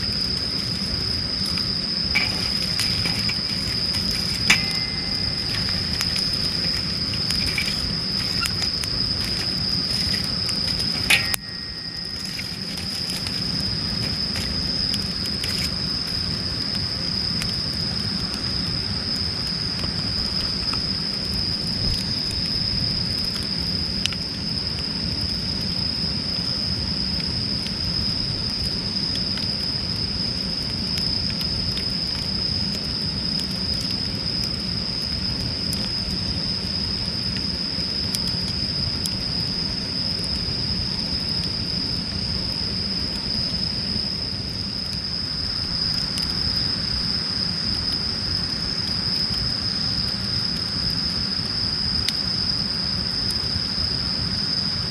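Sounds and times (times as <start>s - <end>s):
wood fire crackling: 0.0s - 53.8s
insect trill: 0.0s - 54.9s.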